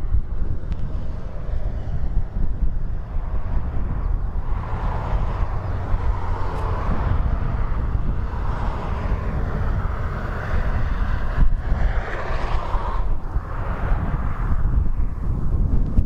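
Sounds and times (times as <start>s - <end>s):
jet engines running: 0.0s - 15.3s
wind rumbling on microphone: 0.0s - 16.0s.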